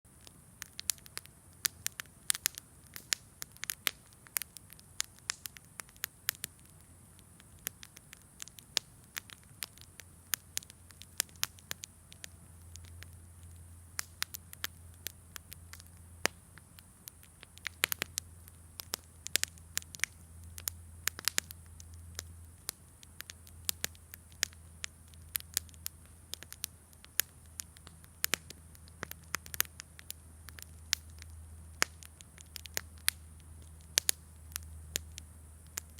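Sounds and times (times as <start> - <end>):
campfire wood crackling: 0.1 - 35.9
faint low hum and hiss: 0.1 - 35.9.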